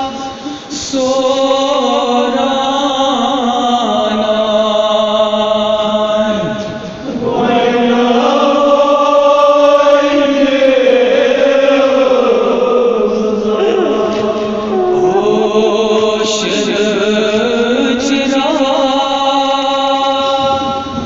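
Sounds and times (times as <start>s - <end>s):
unaccompanied chanted lament: 0.0s - 21.0s.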